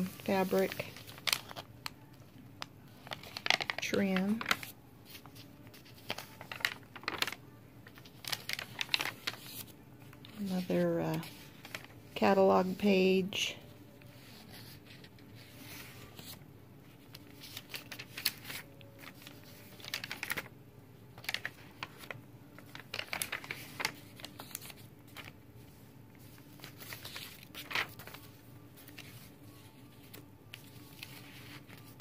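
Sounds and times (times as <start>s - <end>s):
paper pages crinkling and rustling: 0.0s - 13.2s, 13.9s - 32.0s.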